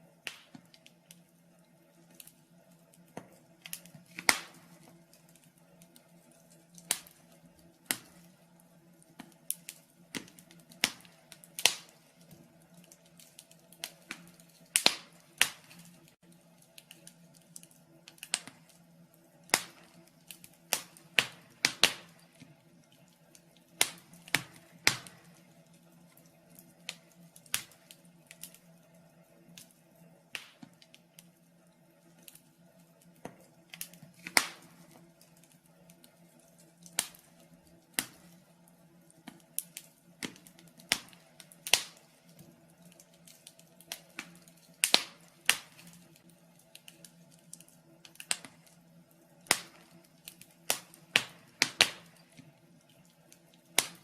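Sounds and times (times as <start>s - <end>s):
faint steady low hum: 0.0s - 54.0s
fire crackling: 0.0s - 54.0s.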